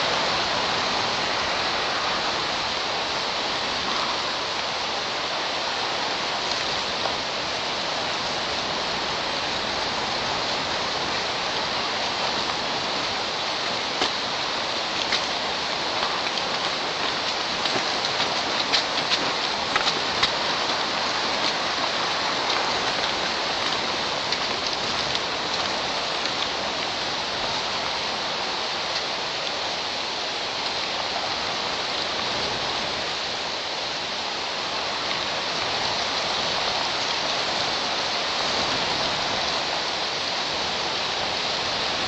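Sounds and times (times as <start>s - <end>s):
rain hissing: 0.0s - 42.0s.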